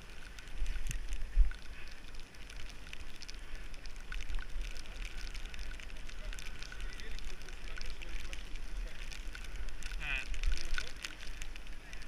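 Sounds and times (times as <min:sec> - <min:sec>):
small ticks: 0:00.0 - 0:12.0
tyres hissing on wet asphalt: 0:00.0 - 0:12.0
wind rumbling on microphone: 0:00.0 - 0:12.0.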